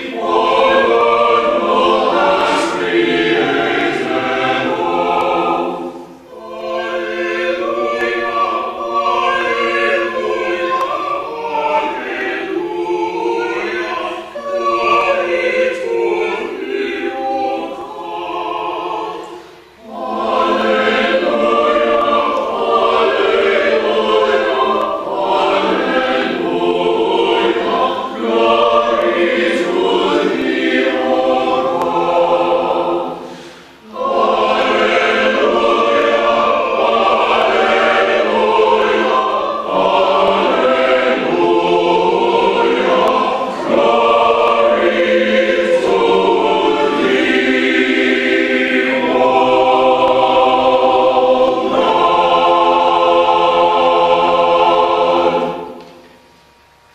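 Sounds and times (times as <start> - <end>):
choir singing: 0.0 - 56.1.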